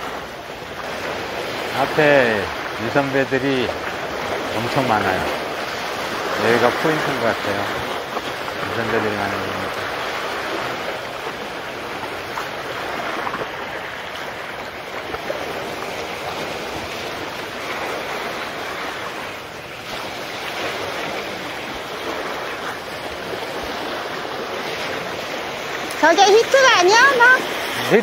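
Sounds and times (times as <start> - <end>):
sea waves washing on concrete: 0.0 - 28.0.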